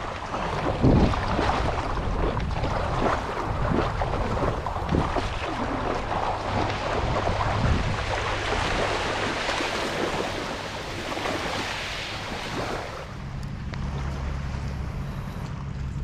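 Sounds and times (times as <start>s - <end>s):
water splashing over gravel: 0.0s - 13.2s
wind rumbling on microphone: 0.0s - 16.0s.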